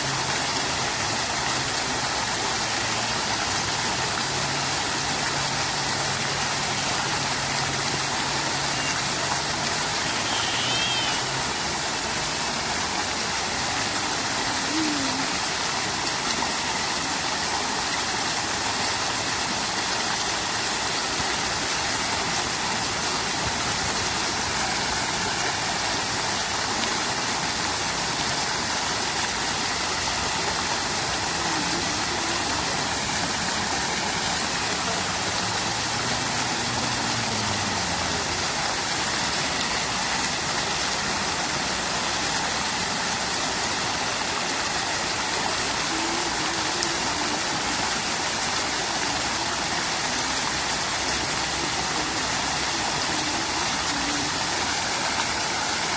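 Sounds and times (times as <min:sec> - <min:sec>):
fountain water splashing: 0:00.0 - 0:55.9.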